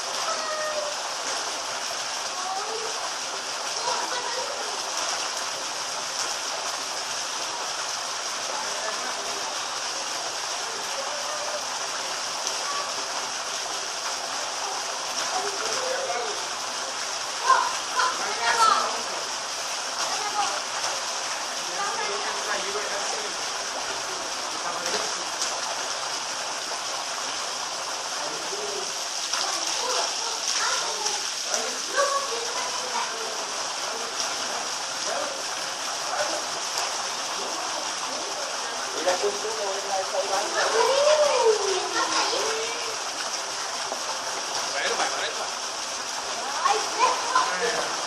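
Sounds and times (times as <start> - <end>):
rushing water: 0.0 - 48.0
faint voices: 7.9 - 48.0.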